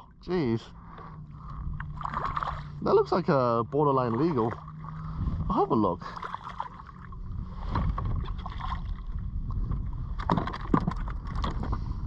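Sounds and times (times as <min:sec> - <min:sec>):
wind buffeting microphone: 0:01.4 - 0:06.2, 0:07.0 - 0:12.0.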